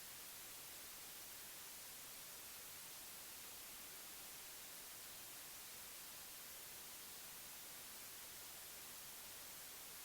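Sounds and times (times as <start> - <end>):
faint white noise hiss: 0.0 - 10.0.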